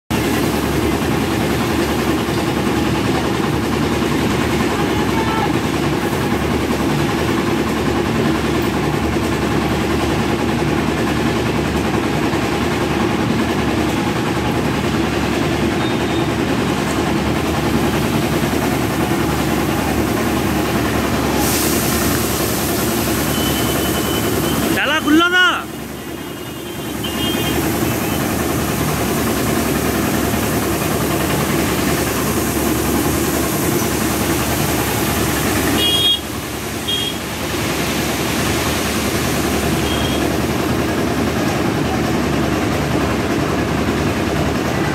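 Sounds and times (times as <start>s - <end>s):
engine idling: 0.1s - 44.9s.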